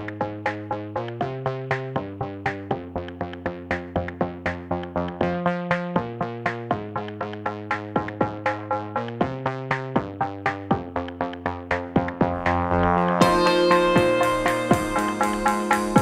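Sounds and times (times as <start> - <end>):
electronic music with plucked synth: 0.0 - 16.0.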